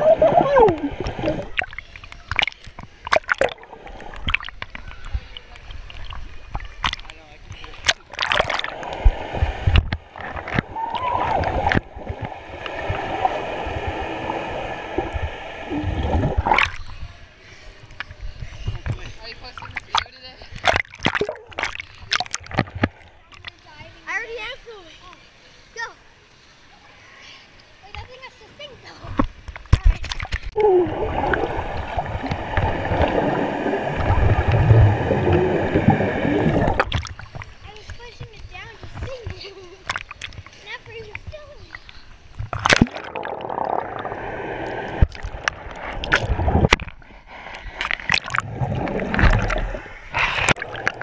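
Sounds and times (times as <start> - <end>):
muffled underwater water noise: 0.0 - 51.0.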